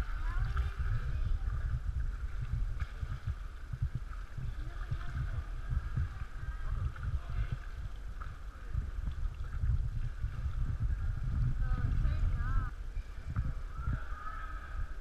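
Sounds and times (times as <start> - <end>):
low uneven rumble: 0.0 - 15.0
paddle splashes: 0.0 - 15.0
water sloshing: 0.0 - 15.0.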